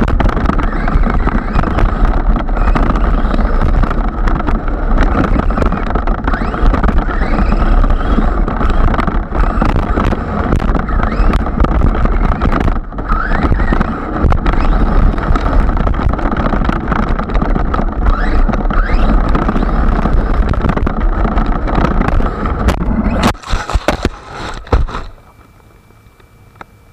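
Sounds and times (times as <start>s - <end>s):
wind on microphone: 0.0s - 25.4s
electric motor whining: 0.0s - 26.3s
drivetrain and tyre noise: 0.0s - 26.9s.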